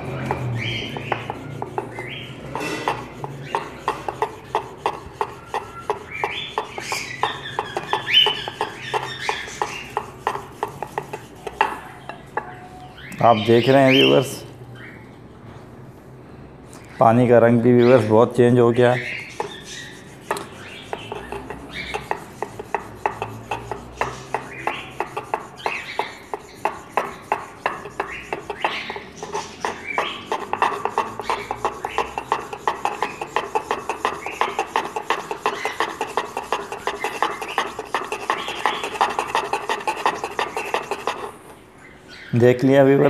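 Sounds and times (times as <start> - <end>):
stone scraping on stone: 0.0 - 14.1, 19.0 - 41.7.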